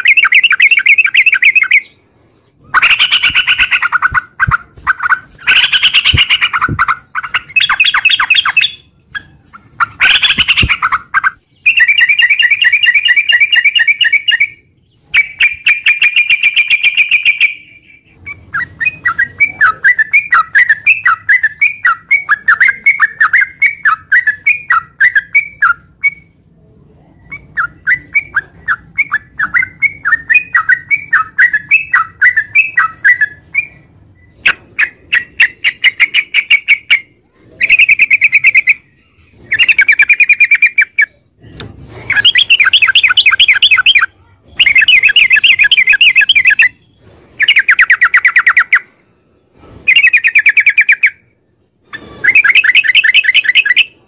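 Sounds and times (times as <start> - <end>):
bird chattering and trilling: 0.0 - 26.4, 27.2 - 54.0.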